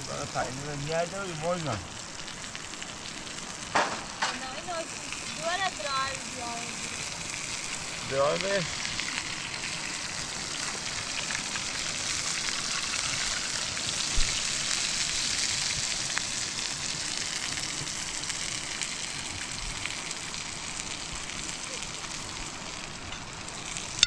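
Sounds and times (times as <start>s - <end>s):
batter sizzling in oil: 0.0s - 24.0s.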